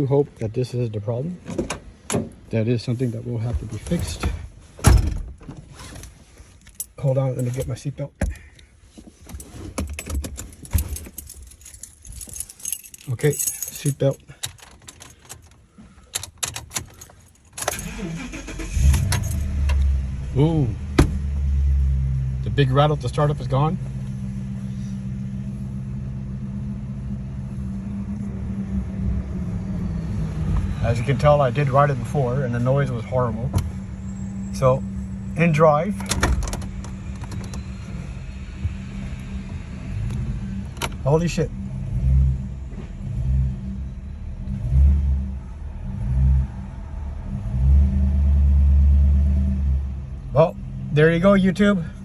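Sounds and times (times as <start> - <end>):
car engine rumble from inside cabin: 0.0 - 52.0.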